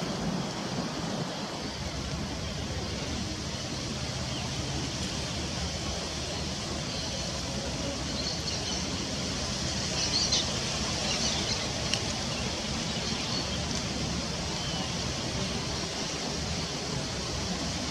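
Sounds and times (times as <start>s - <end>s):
rushing outdoor background noise: 0.0s - 17.9s.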